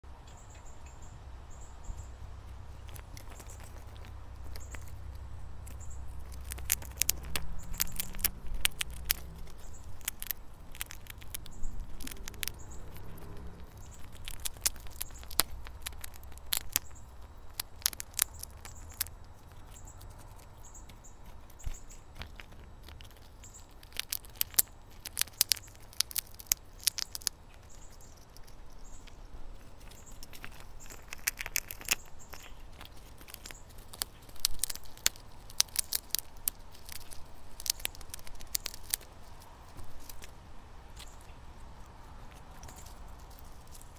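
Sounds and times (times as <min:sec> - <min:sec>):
low steady rumble: 0:00.0 - 0:43.9
chipmunk crunching seeds: 0:00.2 - 0:43.9.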